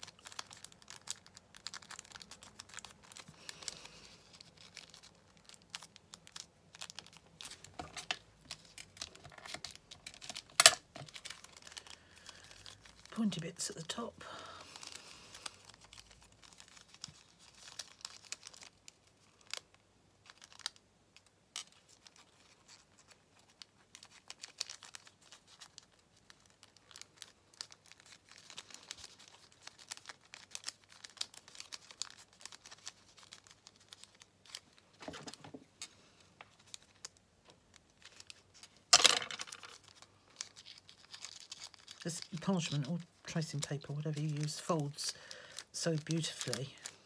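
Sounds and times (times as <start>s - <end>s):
paper crinkling and crackling: 0.0s - 47.0s.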